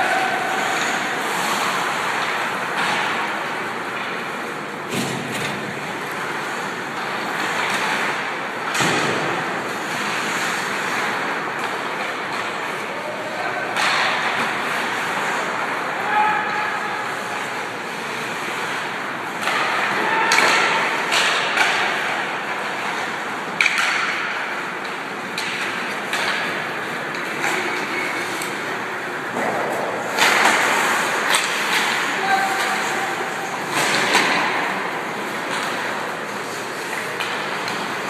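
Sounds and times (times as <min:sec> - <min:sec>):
skates scraping ice: 0:00.0 - 0:38.0
stick and puck clacks: 0:00.0 - 0:38.0.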